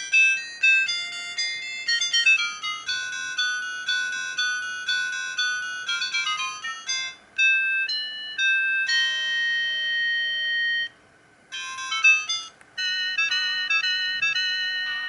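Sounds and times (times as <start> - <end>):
polyphonic phone ringtone melody: 0.0 - 15.0.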